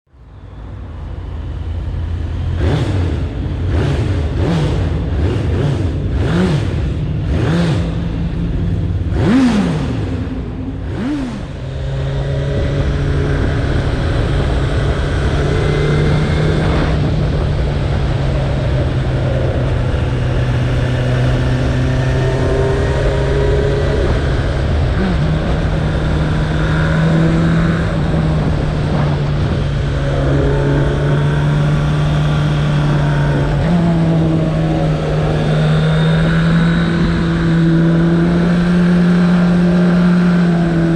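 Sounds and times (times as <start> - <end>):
motorcycle engine accelerating: 0.5 - 40.9.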